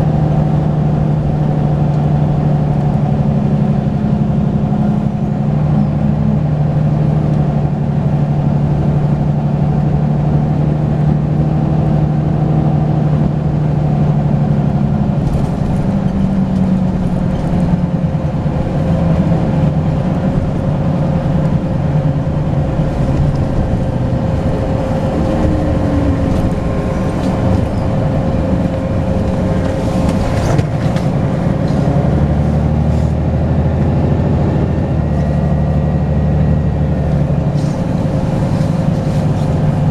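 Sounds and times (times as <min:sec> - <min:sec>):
diesel bus engine running: 0:00.0 - 0:39.9
turbocharger whine: 0:00.0 - 0:39.9.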